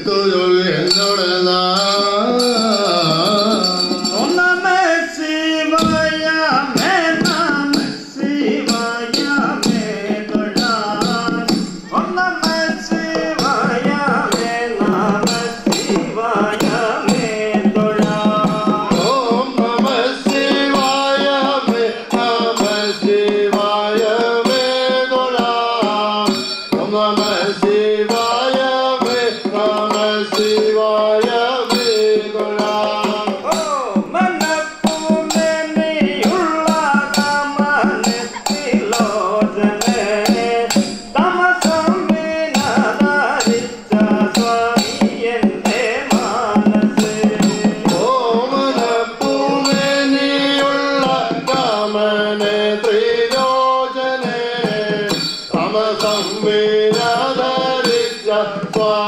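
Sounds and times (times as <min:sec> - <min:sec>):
fast hand-drum beats: 0:00.0 - 0:59.0
men singing: 0:00.0 - 0:59.0.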